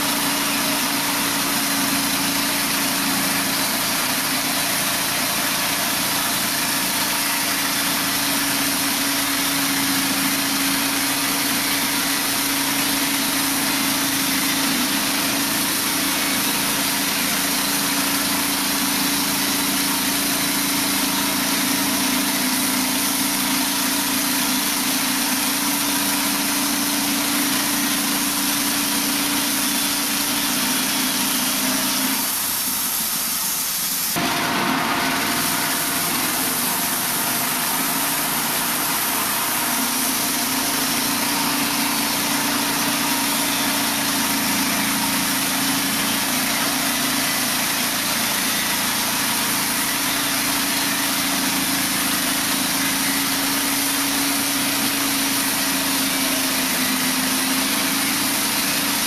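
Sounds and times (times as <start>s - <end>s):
band blade sawing through log: 0.0s - 32.5s, 34.1s - 59.0s
gas engine running: 0.0s - 59.0s.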